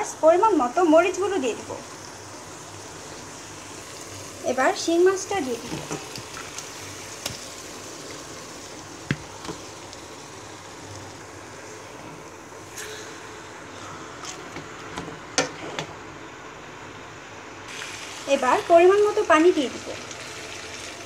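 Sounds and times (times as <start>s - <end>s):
fish frying with steady hiss: 0.0s - 21.0s.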